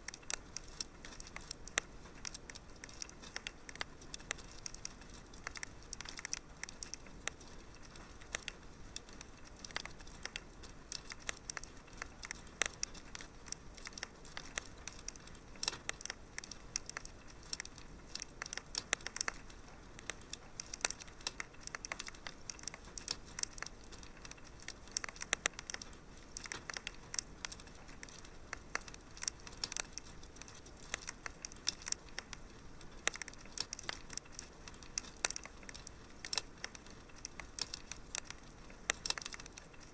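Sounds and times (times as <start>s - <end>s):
soft fire hiss: 0.0s - 39.9s
wood fire crackling and popping: 0.0s - 39.9s.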